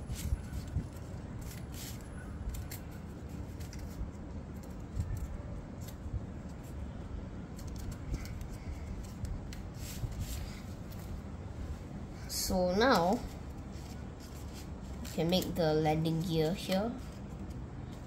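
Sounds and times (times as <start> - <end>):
paper crackling and rustling: 0.0 - 11.3, 12.6 - 18.0.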